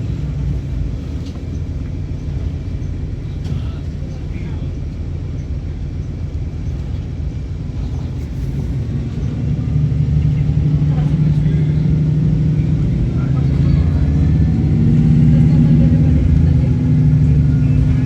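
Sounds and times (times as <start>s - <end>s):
bus engine rumble: 0.0s - 18.0s
strong low hum: 0.0s - 18.0s.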